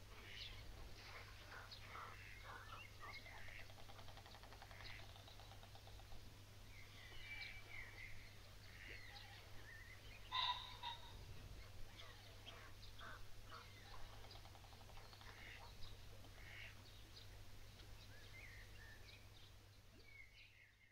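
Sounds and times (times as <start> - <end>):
birds chirping: 0.2 - 20.9.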